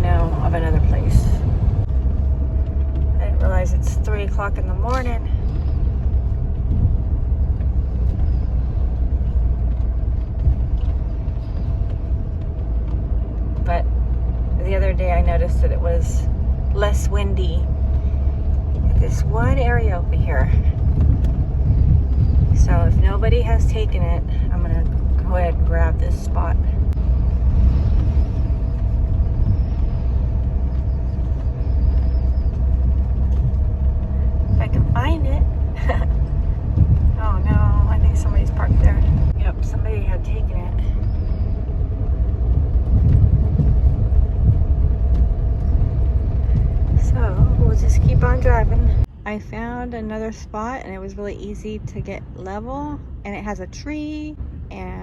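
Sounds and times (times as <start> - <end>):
engine and road rumble: 0.0 - 55.0
faint constant whine: 0.0 - 55.0.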